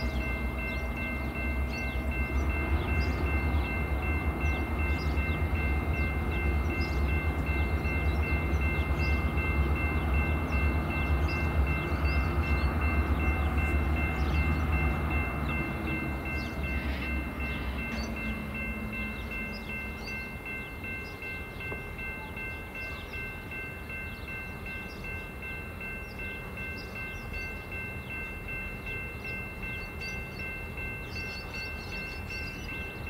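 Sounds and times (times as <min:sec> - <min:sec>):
diesel locomotive engine rumble: 0:00.0 - 0:33.0.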